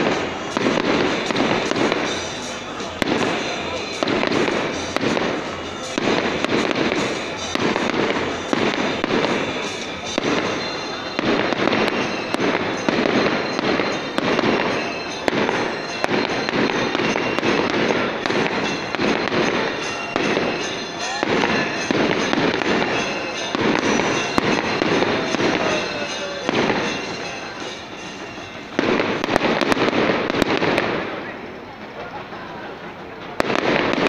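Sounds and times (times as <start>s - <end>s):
fireworks bangs and cracks: 0.0s - 34.0s.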